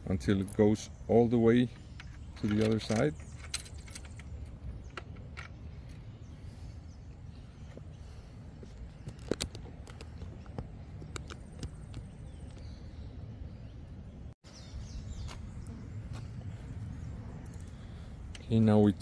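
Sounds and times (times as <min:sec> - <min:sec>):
steady low rumble: 0:03.2 - 0:19.0.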